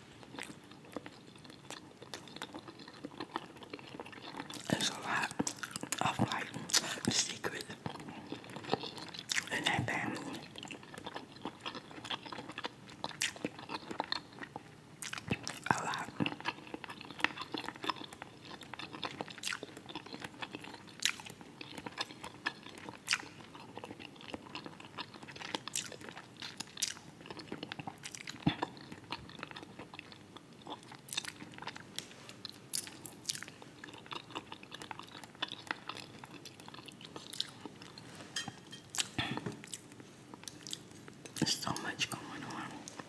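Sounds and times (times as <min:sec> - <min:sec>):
wet chewing: 0:00.2 - 0:31.8, 0:32.4 - 0:41.9.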